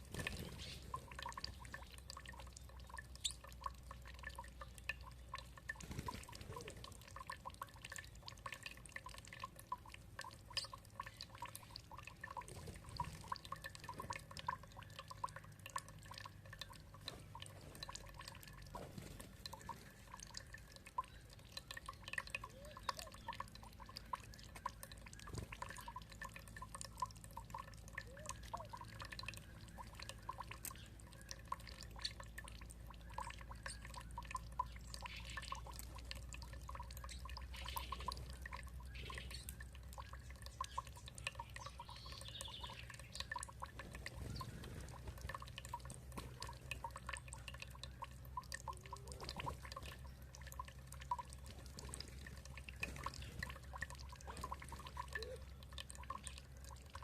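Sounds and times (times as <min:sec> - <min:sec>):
water dripping and trickling: 0:00.0 - 0:57.0.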